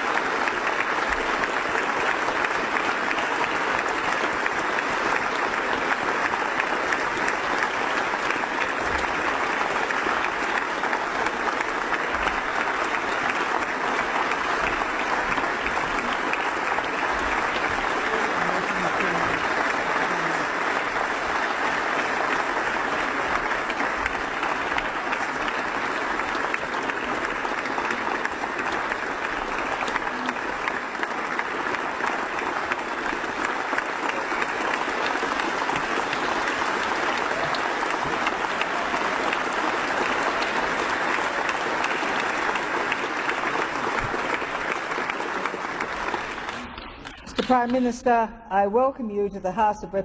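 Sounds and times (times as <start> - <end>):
steady applause: 0.0 - 48.0.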